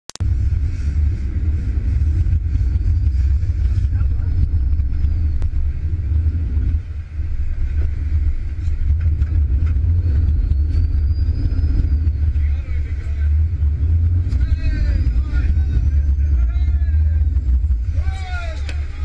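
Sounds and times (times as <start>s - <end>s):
boat engine rumble: 0.1s - 19.0s.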